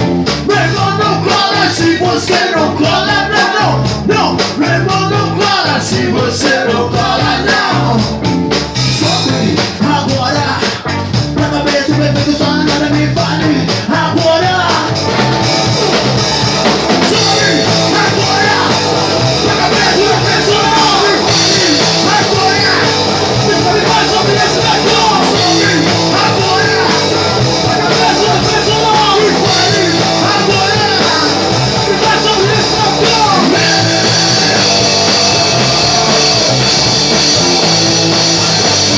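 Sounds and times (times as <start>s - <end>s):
bass guitar: 0.0s - 38.9s
drums: 0.0s - 38.9s
electric guitar: 0.0s - 38.9s
lead vocal singing: 0.4s - 38.9s.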